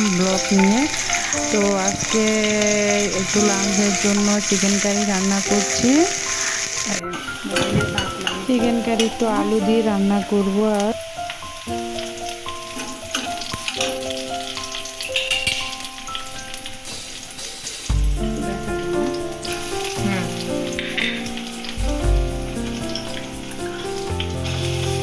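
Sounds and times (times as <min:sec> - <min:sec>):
background music: 0:00.0 - 0:25.0
food sizzling in a pan: 0:00.0 - 0:25.0.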